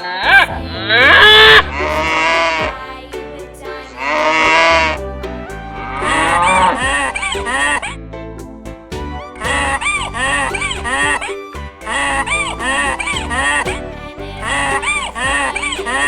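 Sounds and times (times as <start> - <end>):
light background music: 0.0 - 16.0.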